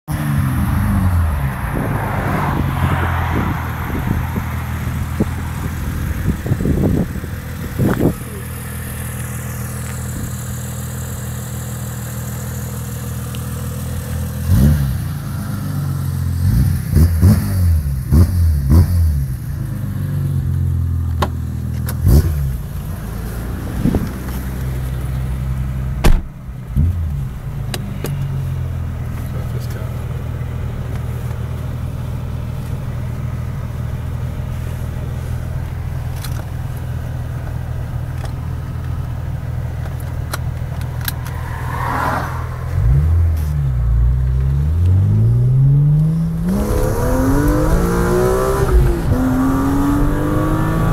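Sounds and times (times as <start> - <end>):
car engine idling and revving: 0.1 - 50.9.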